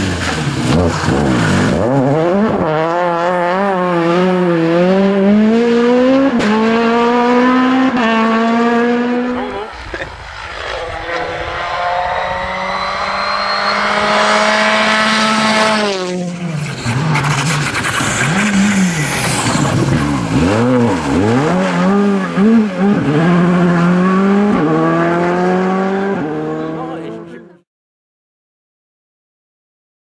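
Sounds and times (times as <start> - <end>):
rally car engine high revs: 0.0 - 27.6
turbocharged engine revving and accelerating: 0.0 - 27.6.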